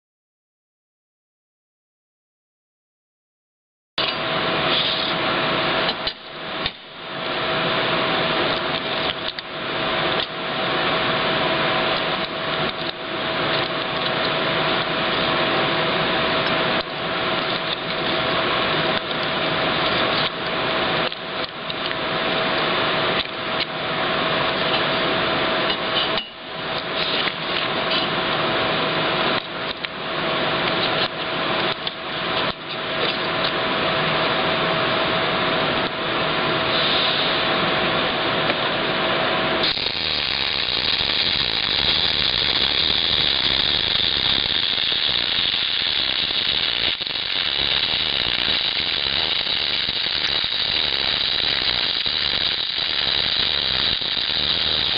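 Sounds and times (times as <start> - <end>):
shop machinery hum: 4.0 - 54.9.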